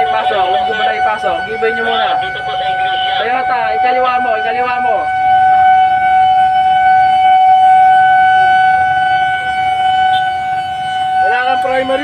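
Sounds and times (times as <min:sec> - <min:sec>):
fire engine siren steady tone: 0:00.0 - 0:12.0.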